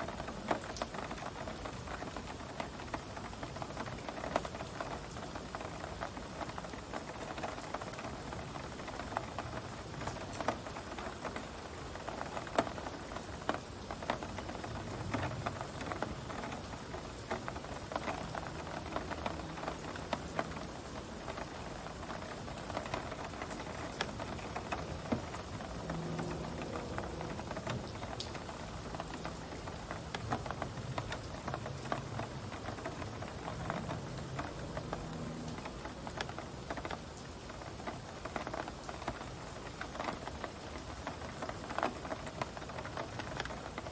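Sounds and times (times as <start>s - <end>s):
heavy rain pattering: 0.0s - 43.9s.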